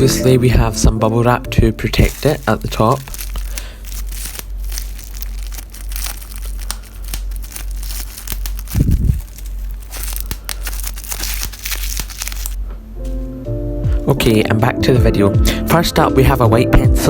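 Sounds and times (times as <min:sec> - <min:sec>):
steady low hum: 0:00.0 - 0:14.8
bubble wrap crinkling: 0:00.1 - 0:14.2.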